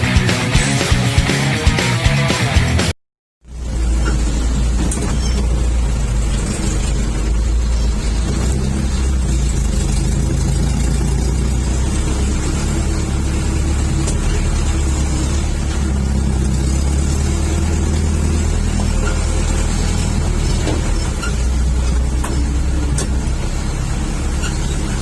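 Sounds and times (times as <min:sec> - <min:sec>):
diesel engine running: 0:03.4 - 0:25.0.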